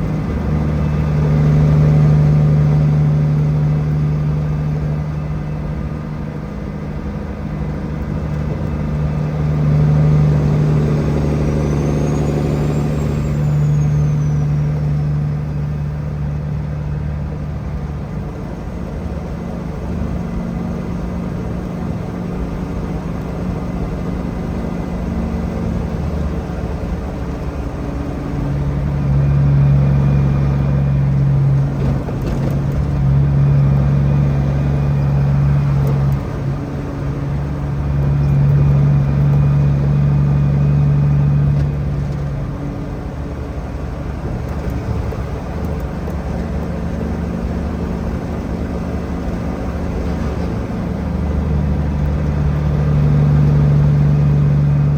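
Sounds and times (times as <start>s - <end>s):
truck engine humming: 0.0s - 54.9s.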